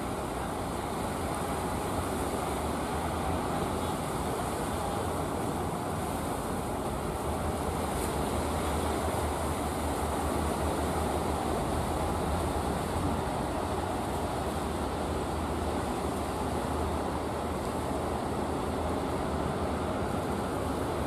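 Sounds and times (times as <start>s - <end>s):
waves washing: 0.0s - 21.0s.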